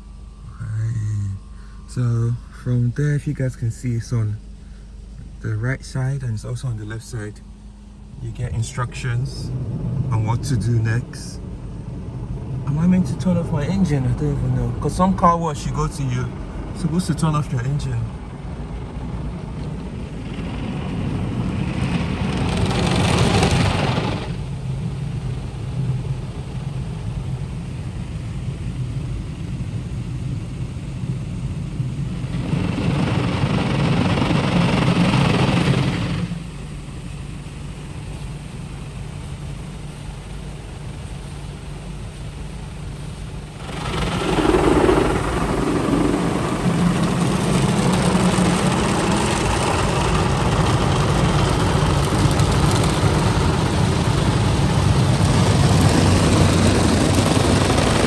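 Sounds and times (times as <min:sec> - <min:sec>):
car wash low hum: 0:00.0 - 0:58.0
car wash rushing: 0:08.1 - 0:58.0.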